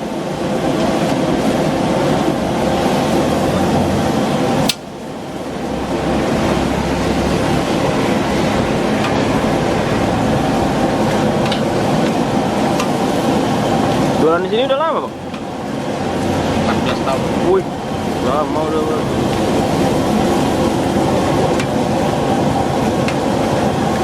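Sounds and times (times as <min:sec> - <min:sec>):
gas wok burner roaring: 0:00.0 - 0:24.0.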